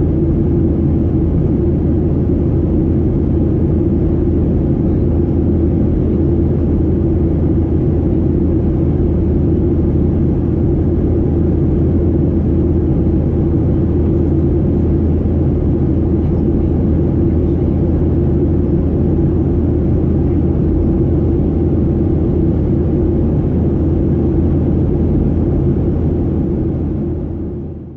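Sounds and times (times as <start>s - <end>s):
airplane cabin drone: 0.0s - 27.9s.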